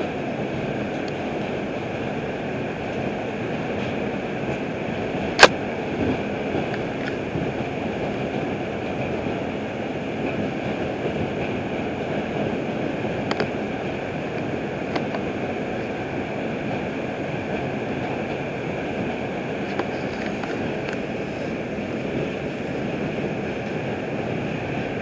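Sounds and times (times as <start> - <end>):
subway train wheels on rail: 0.0 - 25.0.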